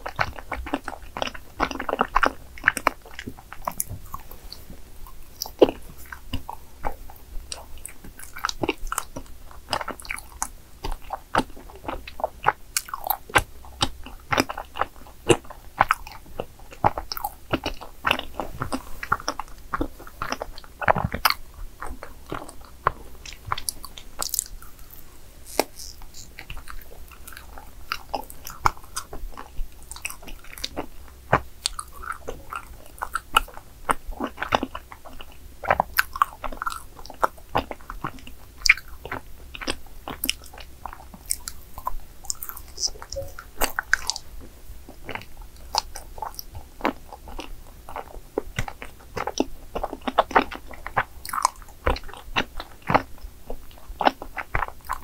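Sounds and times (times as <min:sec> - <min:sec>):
wet mouth sounds: 0:00.0 - 0:44.3
chewing rice cake: 0:00.0 - 0:55.0.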